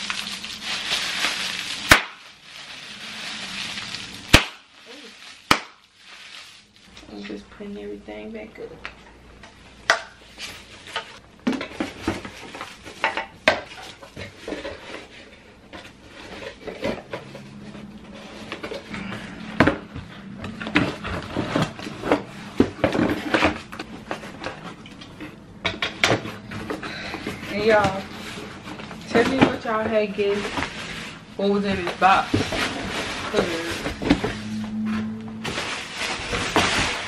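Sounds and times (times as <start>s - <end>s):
items packed into cardboard box: 0.0s - 7.3s, 10.3s - 37.0s.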